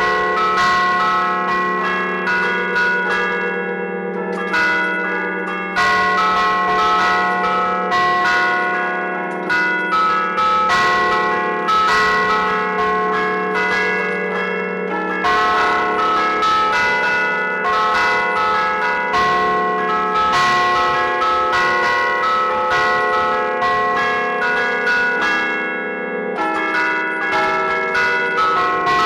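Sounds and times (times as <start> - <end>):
church bells struck by hammers: 0.0 - 29.0.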